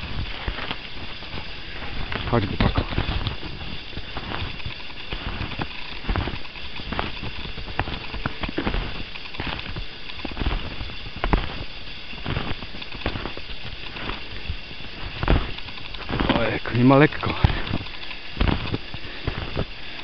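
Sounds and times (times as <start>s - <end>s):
footsteps crunching in snow: 0.0s - 20.0s.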